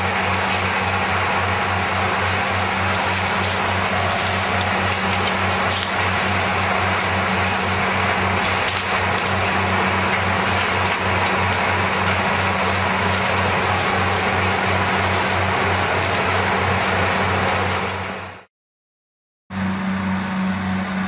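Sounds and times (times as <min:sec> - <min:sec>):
crackling hiss: 0:00.0 - 0:18.3.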